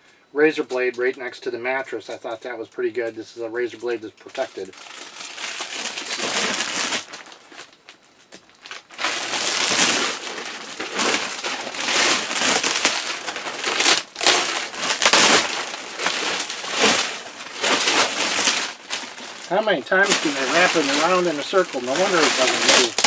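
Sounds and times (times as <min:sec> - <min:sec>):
plastic wrapping crinkling: 0:03.8 - 0:23.0.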